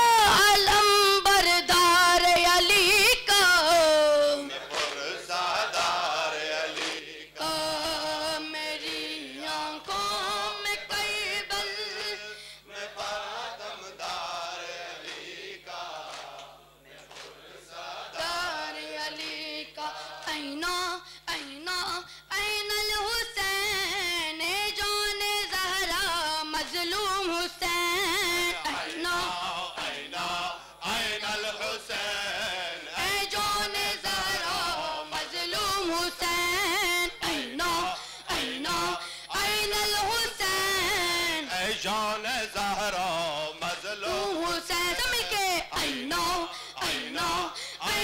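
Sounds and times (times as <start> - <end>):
voices chanting a lament: 0.0 - 48.0.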